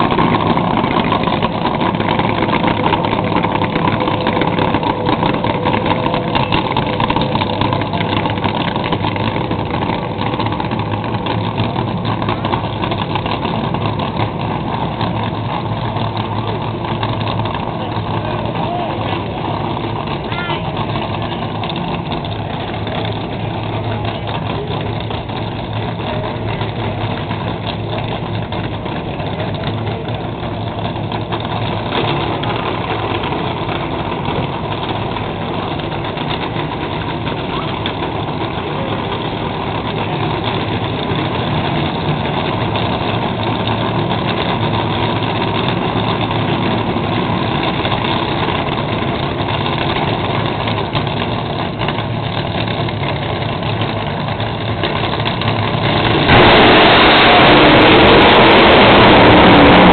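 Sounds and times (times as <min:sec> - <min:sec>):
dragster engines idling: 0:00.0 - 0:59.9.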